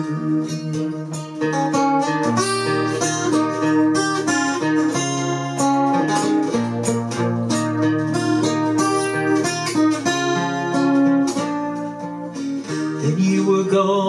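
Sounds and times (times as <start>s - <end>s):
fingerstyle acoustic guitar: 0.0s - 14.0s.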